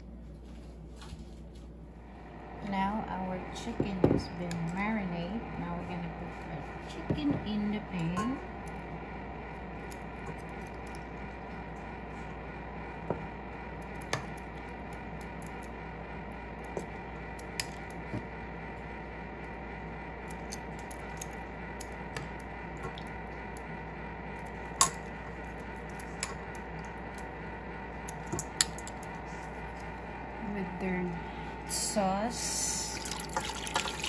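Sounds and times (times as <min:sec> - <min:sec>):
background hum: 0:00.0 - 0:34.0.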